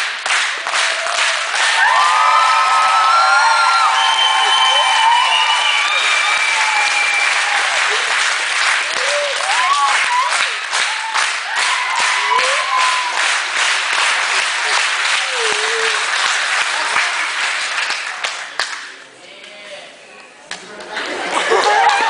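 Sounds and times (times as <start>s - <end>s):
audience applauding: 0.0s - 18.9s, 20.8s - 22.0s.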